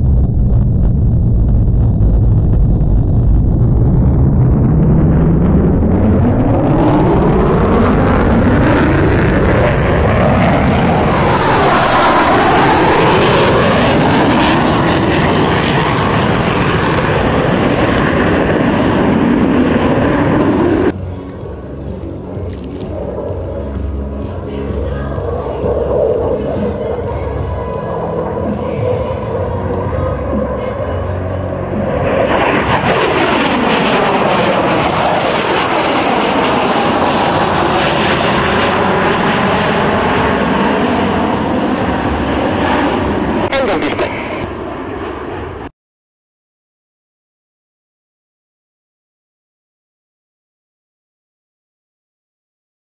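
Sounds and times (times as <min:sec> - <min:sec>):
fighter jet passing: 0:00.0 - 0:45.7.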